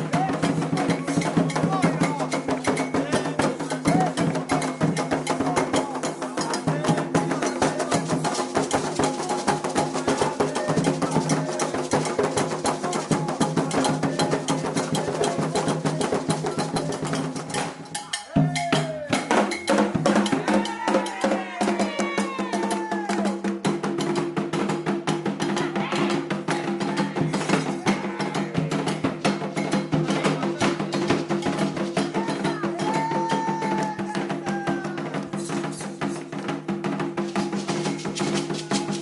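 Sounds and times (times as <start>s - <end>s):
group singing: 0.0s - 17.3s, 18.4s - 23.4s, 25.5s - 35.6s
hand drums played fast: 0.0s - 39.0s.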